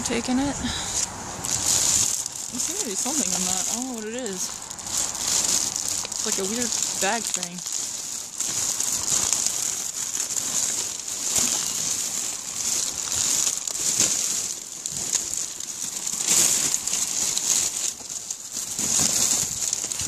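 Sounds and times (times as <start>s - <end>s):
plastic bags crinkling: 0.6s - 20.0s.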